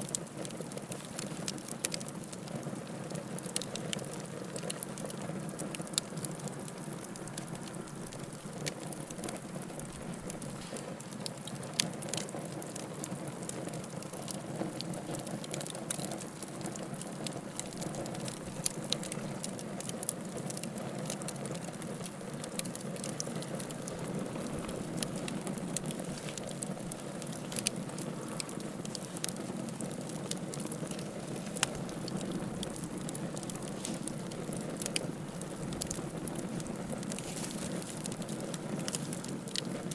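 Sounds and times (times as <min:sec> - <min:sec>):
fire burning: 0:00.0 - 0:39.9
firewood crackling and popping: 0:00.0 - 0:39.9.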